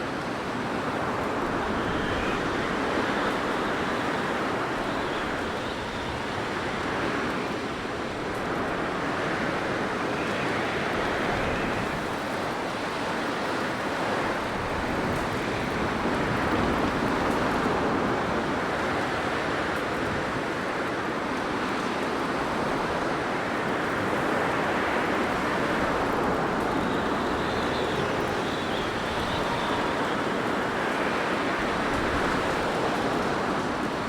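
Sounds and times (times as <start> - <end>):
blizzard wind blowing: 0.0 - 34.0.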